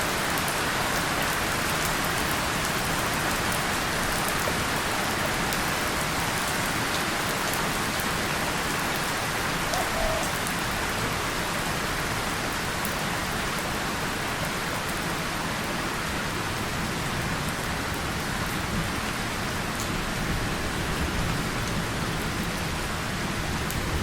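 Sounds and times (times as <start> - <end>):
rain on a tin surface: 0.0 - 24.0.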